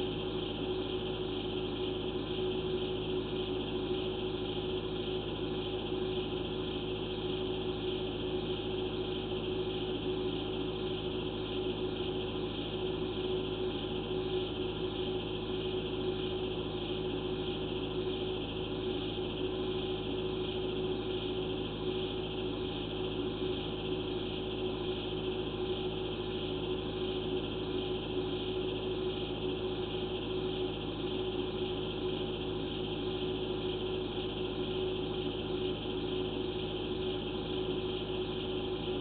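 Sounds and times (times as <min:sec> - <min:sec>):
electronic hum and hiss: 0:00.0 - 0:39.0.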